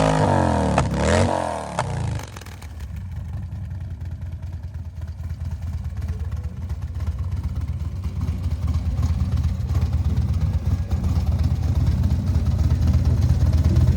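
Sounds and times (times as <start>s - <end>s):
motorcycle engine pulsing: 0.0s - 13.9s.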